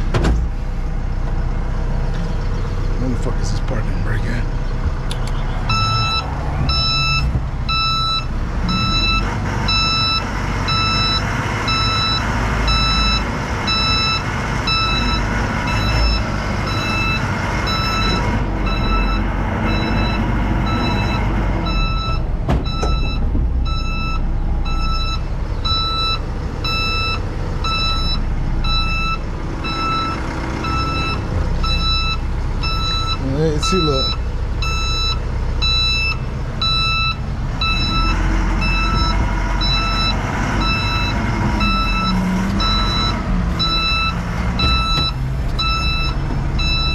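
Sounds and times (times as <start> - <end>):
diesel engine running: 0.0 - 46.9
reverse alarm beeping: 5.7 - 46.9.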